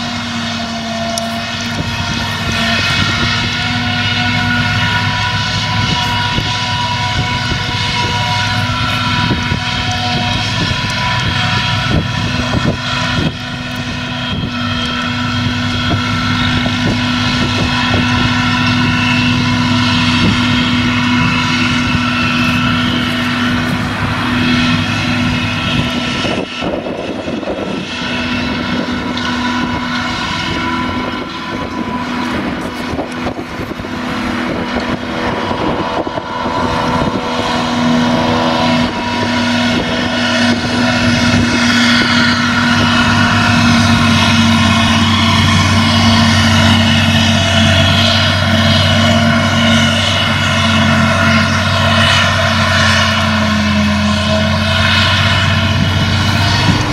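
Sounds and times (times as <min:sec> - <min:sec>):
forage harvester engine drone: 0:00.0 - 0:56.9
high whining tones: 0:00.0 - 0:56.9.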